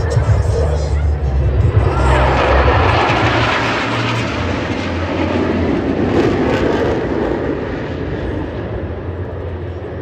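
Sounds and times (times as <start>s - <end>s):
jet aircraft roaring overhead: 0.0s - 10.0s.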